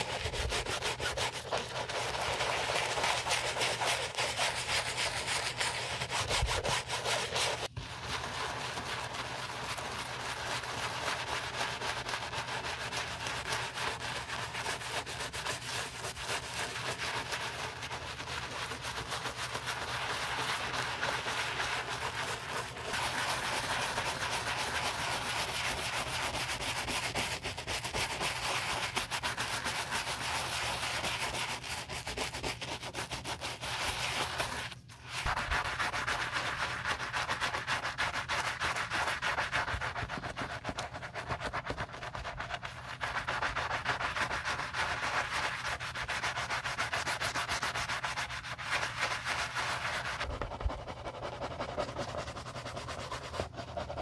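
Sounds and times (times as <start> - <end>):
brush scrubbing sneaker: 0.0 - 54.0.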